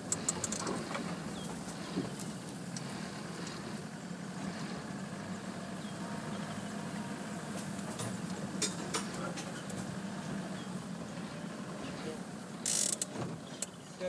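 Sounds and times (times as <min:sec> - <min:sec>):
vehicle engine running at low revs: 0:00.0 - 0:14.0.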